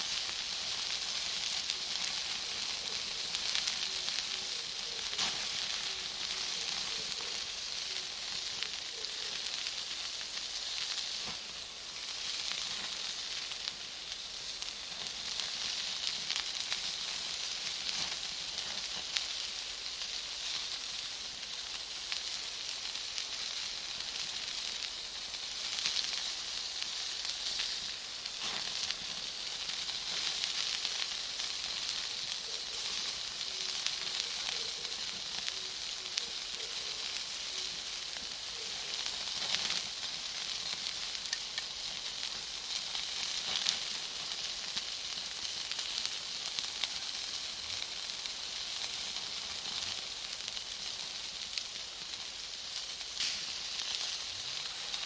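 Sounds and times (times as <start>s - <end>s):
bonfire hissing and crackling: 0.0s - 55.0s.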